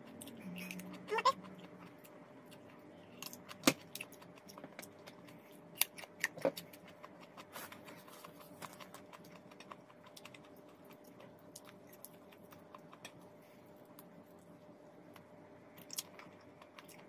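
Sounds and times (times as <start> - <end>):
cucumber crunching being chewed: 0.1 - 14.6.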